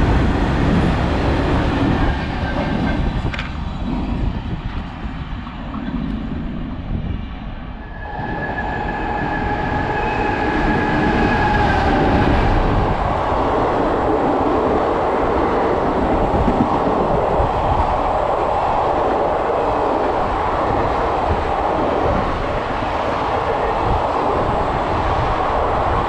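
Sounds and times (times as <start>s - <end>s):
train coaches rumbling past: 0.0s - 26.0s.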